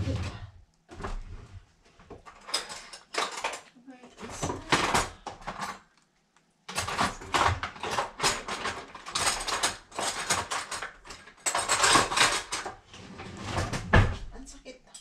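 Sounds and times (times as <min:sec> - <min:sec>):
kitchen objects clattering: 0:00.0 - 0:05.9, 0:06.7 - 0:14.3.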